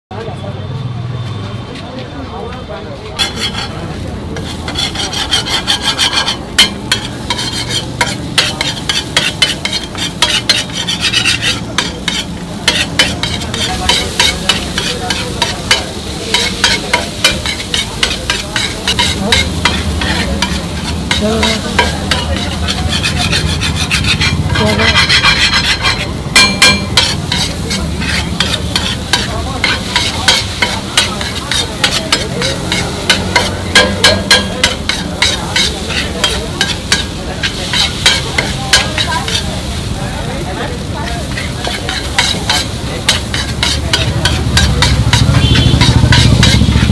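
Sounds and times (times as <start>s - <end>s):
metal spatula scraping griddle: 3.2s - 39.8s, 40.4s - 46.9s
frying sizzle: 3.2s - 46.9s.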